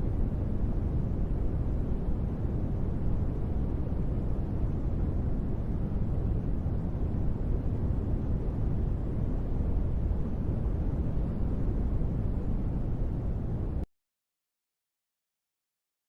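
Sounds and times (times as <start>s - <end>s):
low rumbling white noise: 0.0s - 13.9s.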